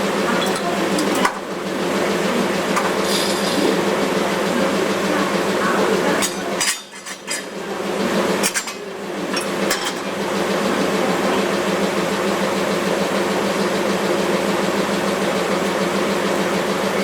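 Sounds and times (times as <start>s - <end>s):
train coach rumble and hum: 0.0s - 17.0s
wheels clicking and rattling: 0.0s - 17.0s.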